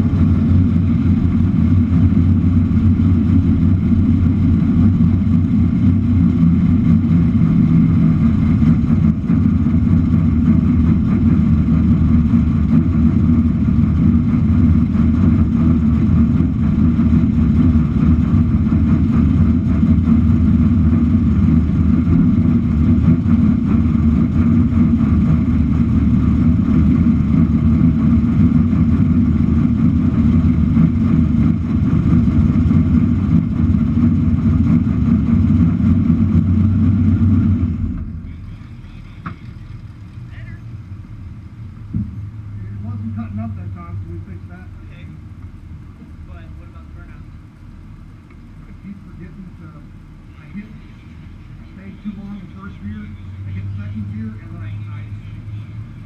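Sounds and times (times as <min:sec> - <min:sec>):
car engine running loudly: 0:00.0 - 0:56.0.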